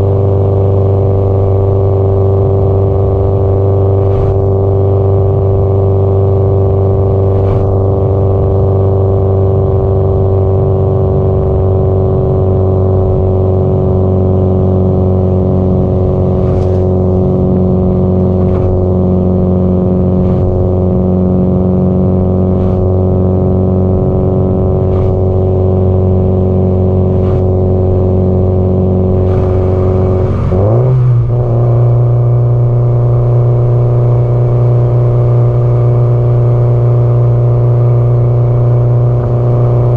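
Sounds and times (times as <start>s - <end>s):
car engine and exhaust droning: 0.0s - 39.9s.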